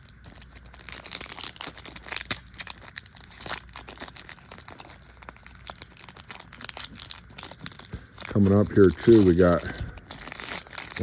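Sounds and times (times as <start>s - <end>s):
card pack wrapper crinkling: 0.0s - 11.0s.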